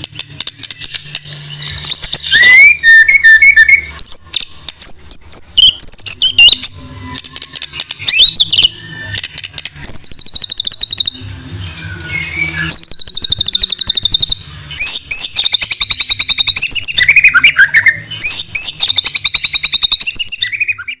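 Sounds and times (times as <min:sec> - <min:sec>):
songbird singing: 0:00.6 - 0:21.0.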